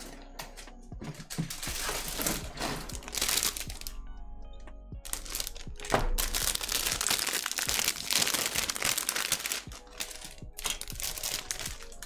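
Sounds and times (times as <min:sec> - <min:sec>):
plastic bag crinkling: 0:01.2 - 0:04.0, 0:05.0 - 0:12.0.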